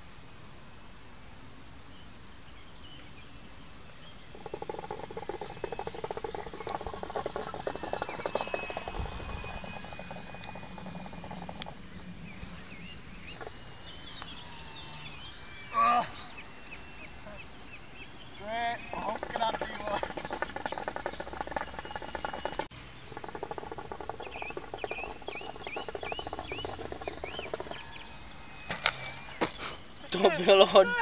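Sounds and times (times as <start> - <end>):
model aeroplane motor buzzing: 2.9 - 31.0.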